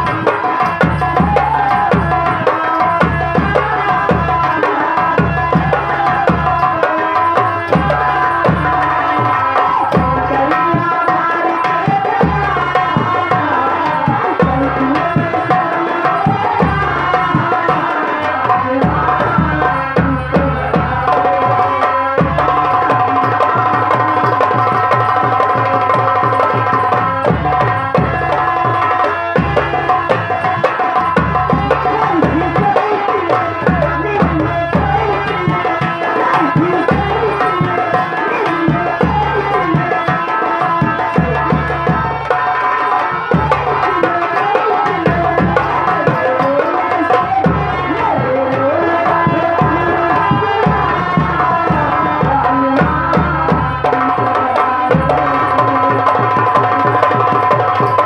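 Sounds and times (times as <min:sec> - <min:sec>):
folk music over loudspeaker: 0:00.0 - 0:58.0
hand drum rhythm: 0:00.0 - 0:58.0.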